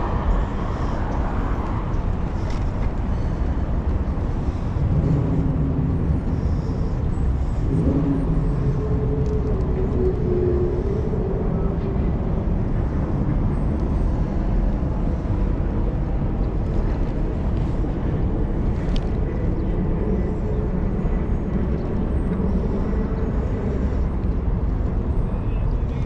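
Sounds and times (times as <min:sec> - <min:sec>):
city traffic: 0:00.0 - 0:26.0
wind rumble: 0:00.0 - 0:26.0.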